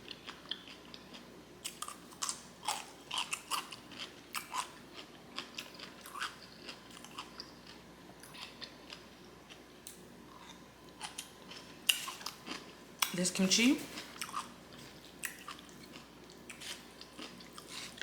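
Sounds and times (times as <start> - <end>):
person chewing with wet smacks: 0.0 - 13.2, 14.1 - 18.0.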